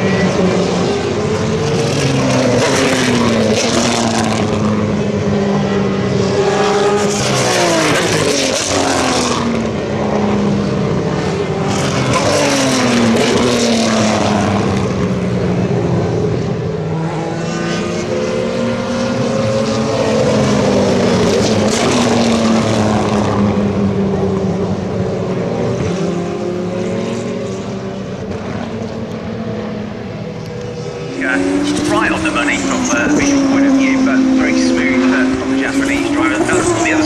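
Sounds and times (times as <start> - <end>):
race car engines passing: 0.0 - 37.0
steady engine drone: 0.0 - 37.0.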